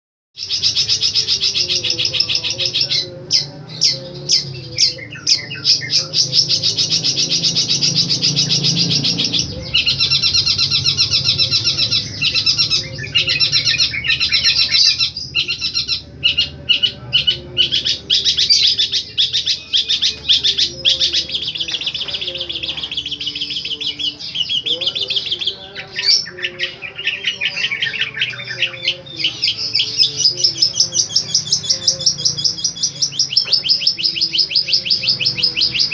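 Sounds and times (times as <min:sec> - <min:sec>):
shrike singing trills: 0:00.4 - 0:35.9.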